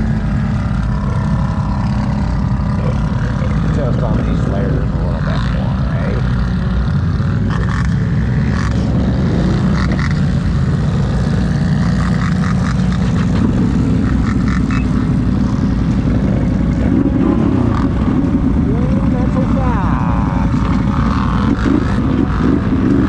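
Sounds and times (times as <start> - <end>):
atv engines droning: 0.0 - 23.0.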